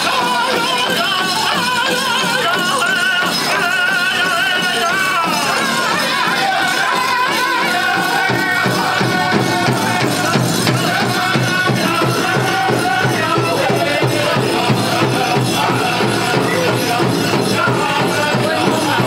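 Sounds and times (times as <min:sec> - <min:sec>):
big drum steady beat: 0:00.0 - 0:19.0
group singing high wavering song: 0:00.0 - 0:19.0.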